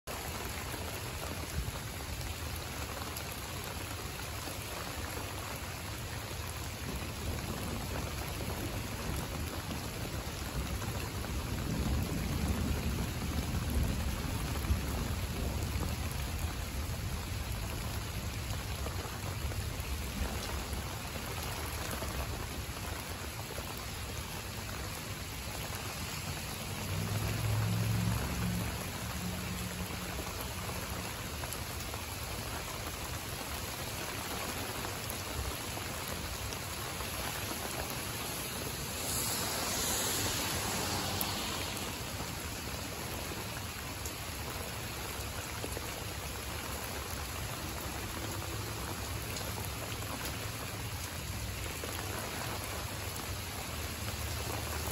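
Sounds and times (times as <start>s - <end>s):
rain pattering on plants: 0.0s - 54.9s.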